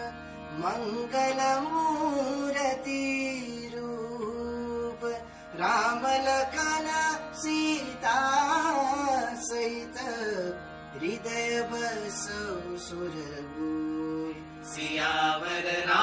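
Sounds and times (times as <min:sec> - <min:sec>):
instrumental accompaniment: 0:00.0 - 0:16.0
person singing devotional song: 0:00.0 - 0:16.0.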